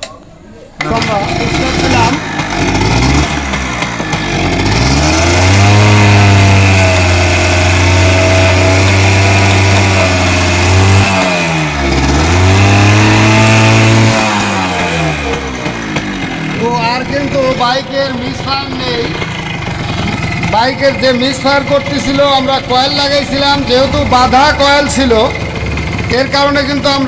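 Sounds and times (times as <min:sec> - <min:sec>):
motorcycle engine revving: 0:00.8 - 0:27.0.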